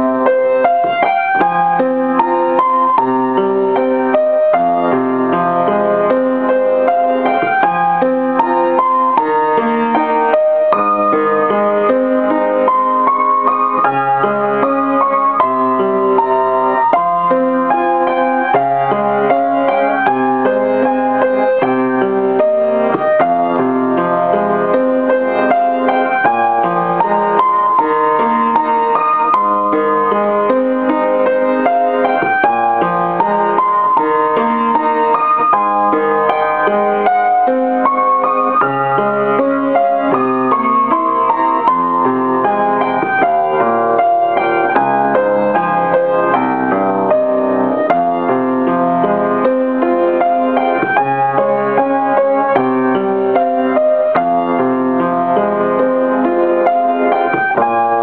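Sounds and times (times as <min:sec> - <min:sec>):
solo piano: 0:00.0 - 0:58.0.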